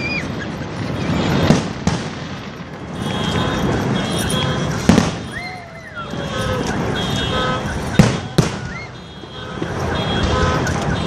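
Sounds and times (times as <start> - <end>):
crowd noise: 0.0 - 11.0
fireworks bangs: 0.0 - 11.0.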